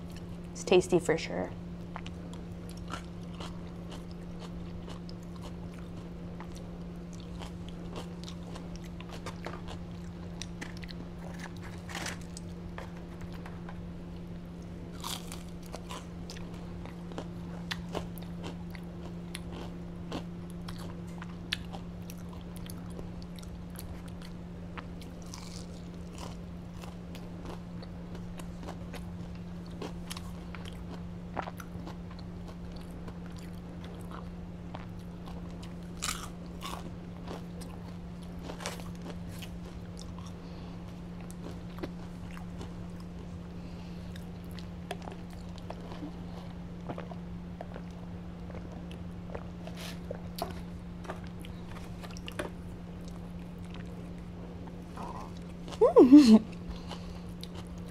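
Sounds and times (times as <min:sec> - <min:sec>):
crunchy chewing and mouth clicks: 0:00.0 - 0:00.6, 0:01.8 - 0:55.9, 0:56.5 - 0:57.9
steady low hum: 0:00.0 - 0:57.9.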